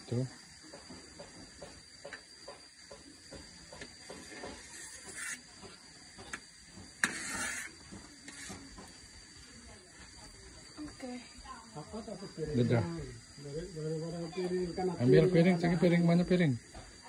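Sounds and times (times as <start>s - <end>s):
sap boiling with pops and crackles: 0.0s - 17.0s.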